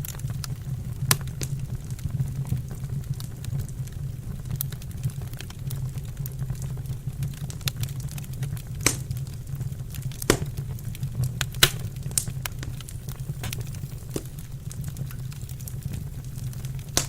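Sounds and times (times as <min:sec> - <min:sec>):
fire pops: 0:00.0 - 0:17.0
low fire rumble: 0:00.0 - 0:17.0
wood fire crackling: 0:00.0 - 0:17.0.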